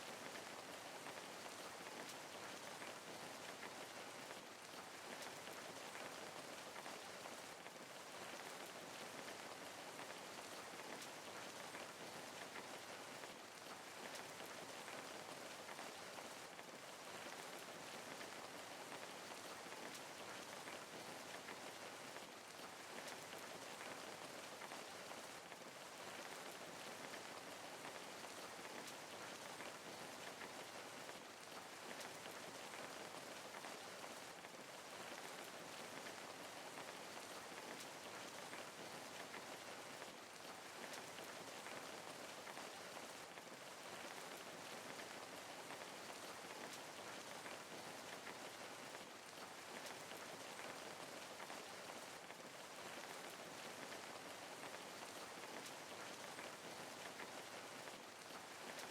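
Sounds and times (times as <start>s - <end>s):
steady rain patter: 0.0s - 58.9s.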